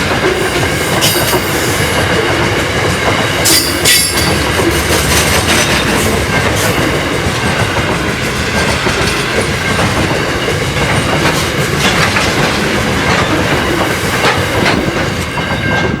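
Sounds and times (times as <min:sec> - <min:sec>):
train wheels rumbling on rails: 0:00.0 - 0:16.0
wheels clicking over rail joints: 0:00.1 - 0:16.0.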